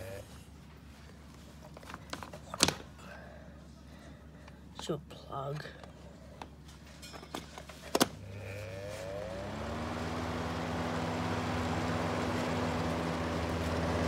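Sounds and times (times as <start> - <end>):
exhaust fan motor hum: 0.0 - 14.0.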